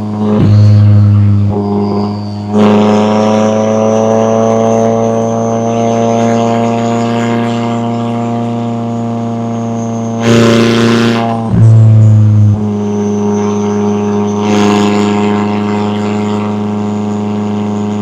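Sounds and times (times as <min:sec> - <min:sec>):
car exhaust droning: 0:00.0 - 0:18.0
thin high whine: 0:00.0 - 0:18.0.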